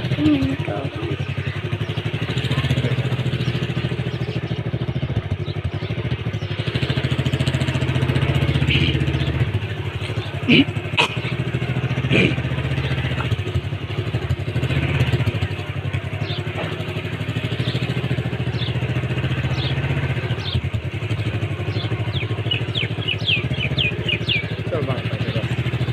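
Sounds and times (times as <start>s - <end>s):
small engine running: 0.0s - 25.9s.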